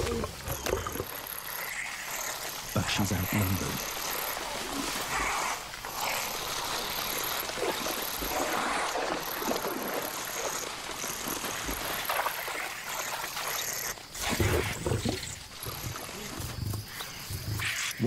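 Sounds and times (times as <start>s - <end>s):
animal growls and snarls: 0.0s - 18.0s
animals rustling in wet grass: 0.0s - 18.0s.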